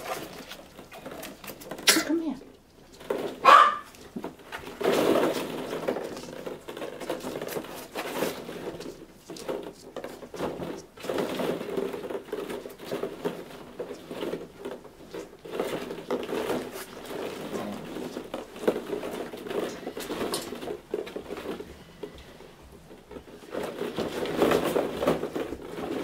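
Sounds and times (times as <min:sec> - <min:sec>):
plastic balls clattering: 0:00.0 - 0:26.0.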